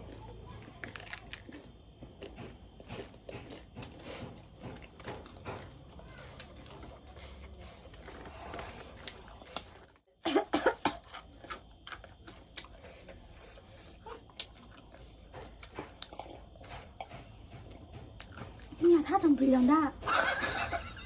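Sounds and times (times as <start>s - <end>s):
chewing and biting food: 0.0s - 10.0s, 10.7s - 18.8s.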